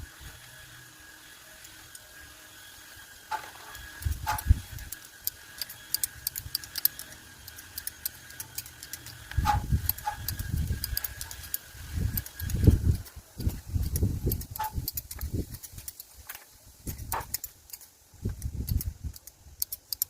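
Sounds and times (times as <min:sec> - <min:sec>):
scissors snipping twigs: 0:03.3 - 0:20.0.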